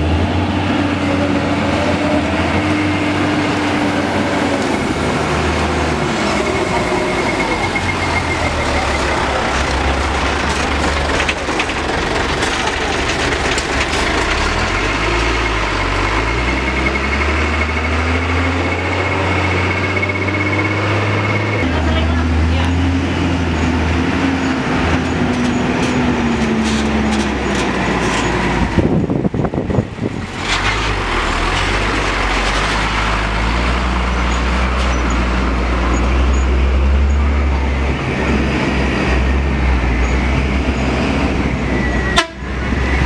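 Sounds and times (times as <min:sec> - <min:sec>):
diesel truck engines rumbling: 0:00.0 - 0:43.0.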